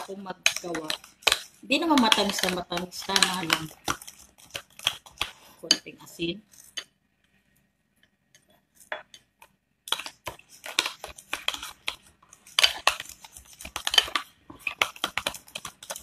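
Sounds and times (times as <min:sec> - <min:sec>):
spoon scraping a bowl: 0:00.0 - 0:06.9, 0:09.9 - 0:16.0.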